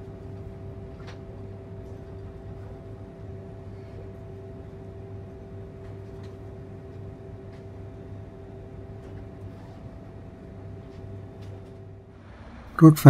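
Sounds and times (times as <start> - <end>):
electrical hum with steady tones: 0.0 - 13.0.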